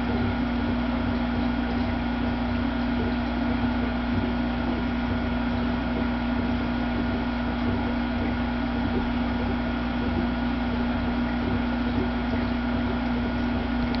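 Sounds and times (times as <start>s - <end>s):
aquarium pump humming: 0.0s - 14.0s.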